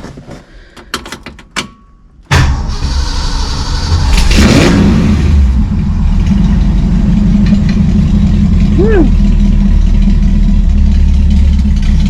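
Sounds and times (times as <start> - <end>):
car engine starting and running: 2.3 - 12.0.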